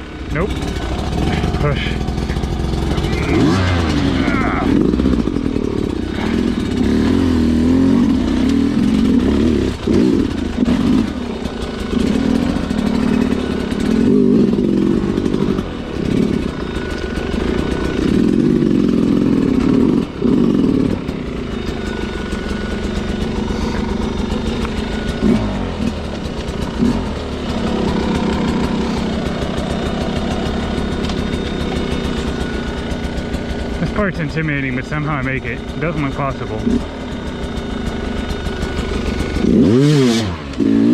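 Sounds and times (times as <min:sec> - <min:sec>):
two-stroke dirt bike engine: 0:00.0 - 0:40.9.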